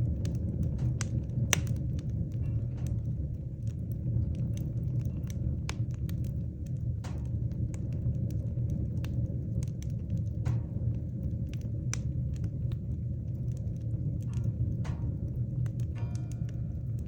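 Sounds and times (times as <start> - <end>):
fire rumbling: 0.0 - 17.0
wood crackling and popping: 0.0 - 17.0.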